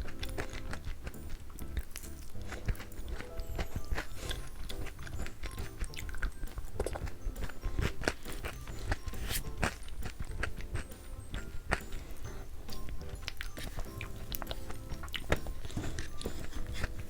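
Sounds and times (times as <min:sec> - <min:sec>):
biting and chewing cookies: 0:00.0 - 0:17.0
soft background music: 0:00.0 - 0:17.0
sticky clicks and crunches: 0:00.0 - 0:17.0.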